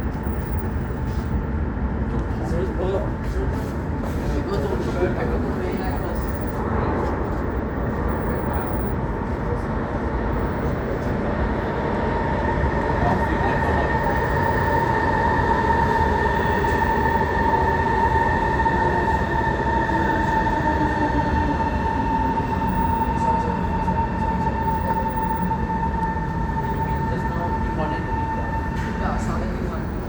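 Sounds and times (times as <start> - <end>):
train rumble with electric whine: 0.0 - 30.0.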